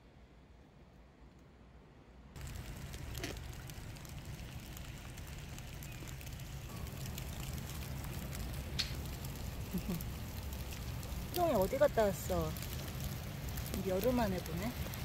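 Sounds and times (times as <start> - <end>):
low rumble with crackles: 2.2 - 15.0.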